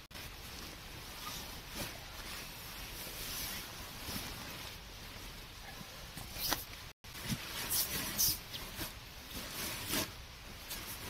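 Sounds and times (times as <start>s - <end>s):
sleeping bag fabric rustling: 0.0s - 11.0s.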